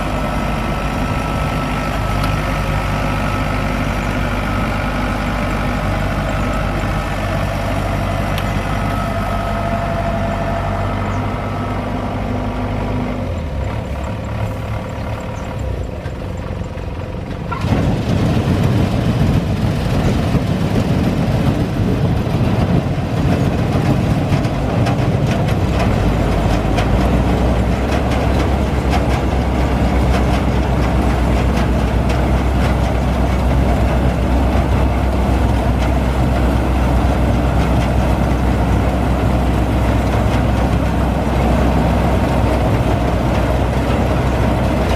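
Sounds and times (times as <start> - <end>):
combine harvester engine running: 0.0 - 44.9.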